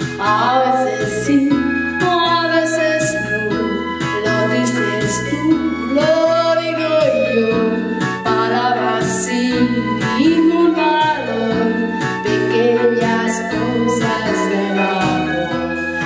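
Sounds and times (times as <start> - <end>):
instrumental backing music: 0.0 - 16.0
woman singing: 0.0 - 16.0.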